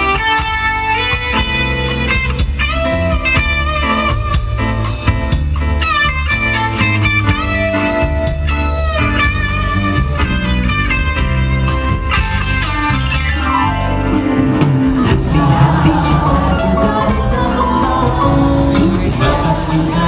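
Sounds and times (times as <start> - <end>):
bass: 0.0 - 20.0
drums: 0.0 - 20.0
electric guitar lead with bent notes: 0.0 - 20.0.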